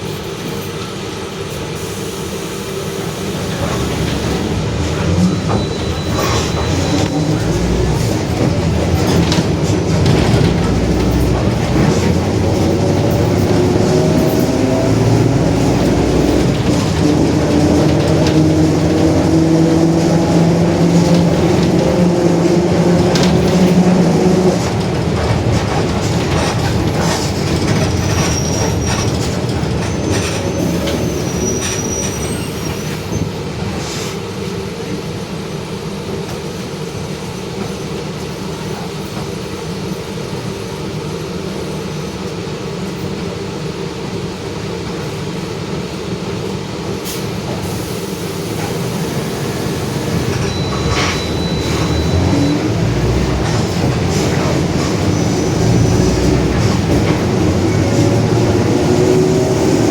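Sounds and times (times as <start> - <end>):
bus diesel engine rumbling: 0.0 - 59.9.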